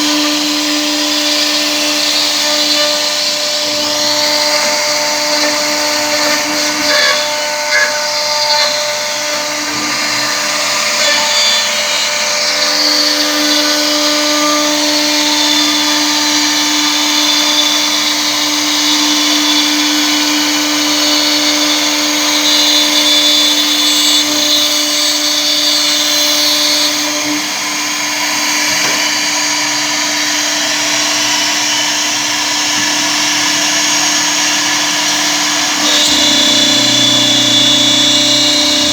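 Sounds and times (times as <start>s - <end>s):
router spindle cutting wood: 0.0s - 38.9s.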